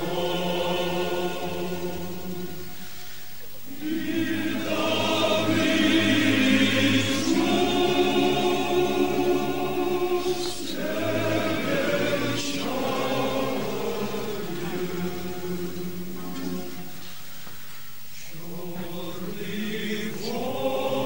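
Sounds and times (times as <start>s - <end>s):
choir singing long notes: 0.0s - 17.6s, 18.2s - 21.0s.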